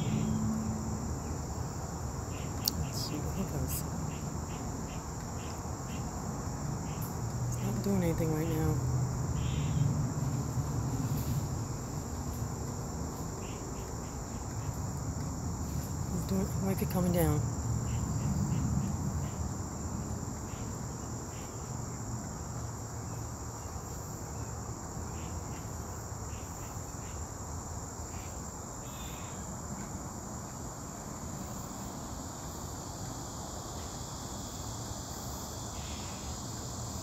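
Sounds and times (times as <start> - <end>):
insect chirps: 0.0 - 37.0
insects trilling: 0.0 - 37.0.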